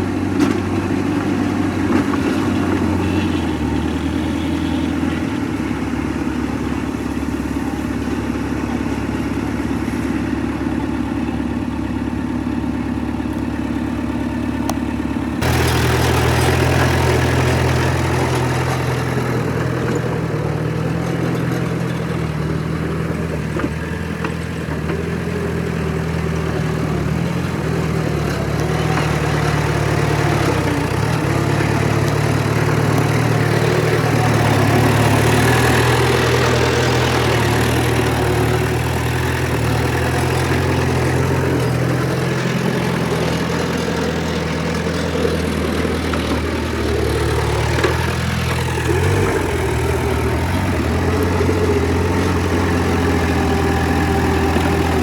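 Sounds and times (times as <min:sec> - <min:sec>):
heavy diesel machinery engines: 0:00.0 - 0:55.0.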